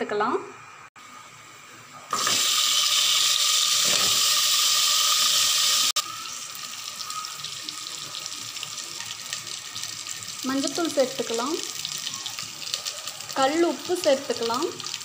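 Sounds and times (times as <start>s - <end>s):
hot oil sizzling: 2.0s - 15.0s.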